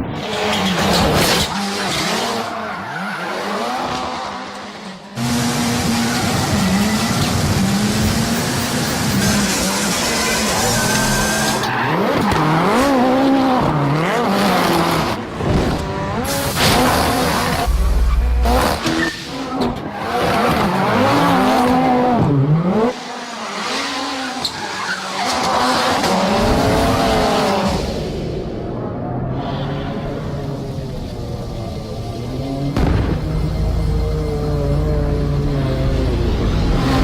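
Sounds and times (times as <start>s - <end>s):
tyres skidding and squealing: 0.0s - 28.2s, 29.2s - 37.0s
rally car engine revving: 0.0s - 37.0s.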